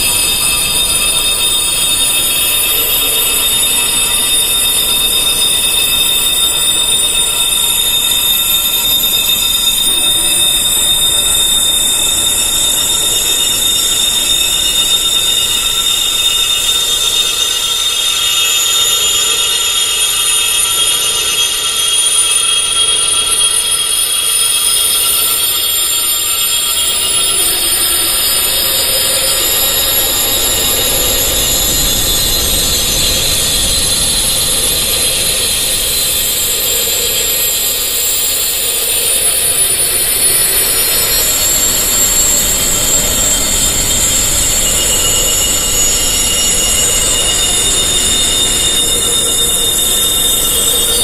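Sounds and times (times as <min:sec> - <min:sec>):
high wind chimes ringing: 0:00.0 - 0:51.0.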